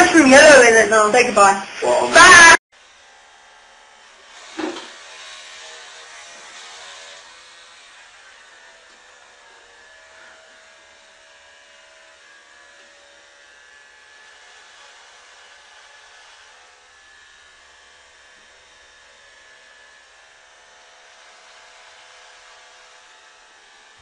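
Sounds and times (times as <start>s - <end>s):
small motor whirring: 2.8s - 24.0s.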